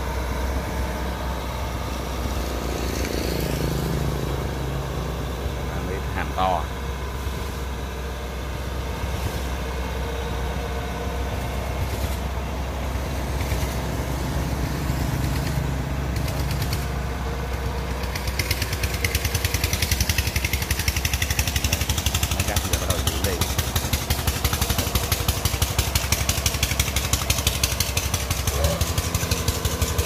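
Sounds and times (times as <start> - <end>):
diesel engines idling: 0.0 - 30.0
engine chugging close by: 0.0 - 30.0.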